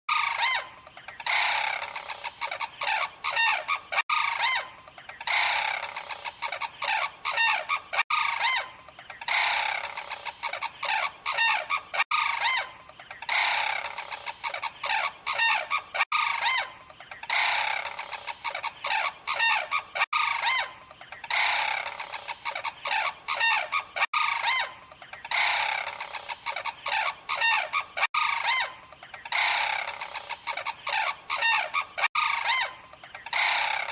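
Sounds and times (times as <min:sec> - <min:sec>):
crane calls: 0:00.1 - 0:33.9.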